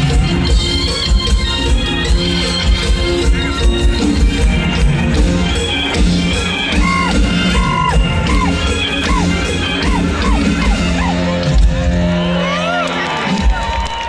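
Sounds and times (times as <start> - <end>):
loud band music through speakers: 0.0 - 14.0.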